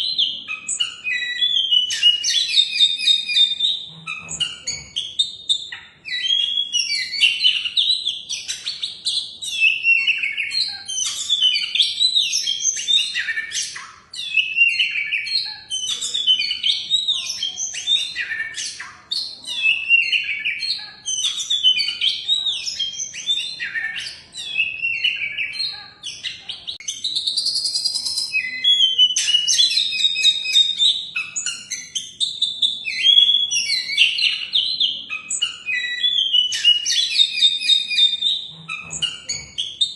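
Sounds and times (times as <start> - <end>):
songbird singing whistles: 0.0 - 39.9.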